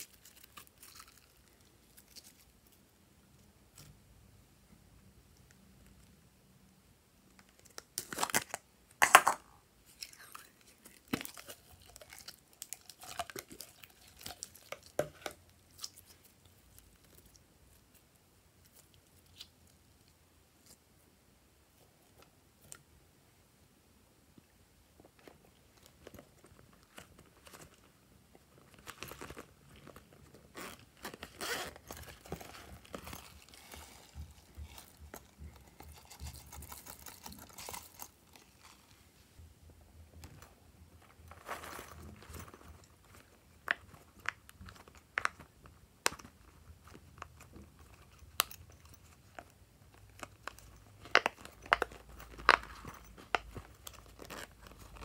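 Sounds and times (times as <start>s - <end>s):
crunching and crinkling sprinkles: 0.0s - 4.2s, 7.2s - 21.0s, 24.9s - 55.0s.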